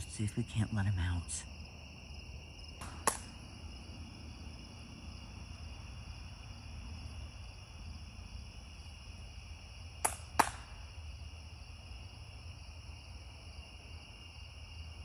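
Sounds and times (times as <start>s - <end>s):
crickets and night insects: 0.0s - 15.0s.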